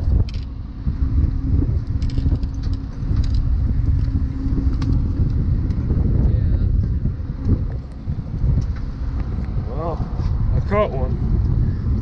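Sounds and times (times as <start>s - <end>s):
boat engine running: 0.0s - 12.0s
wind noise: 0.0s - 12.0s.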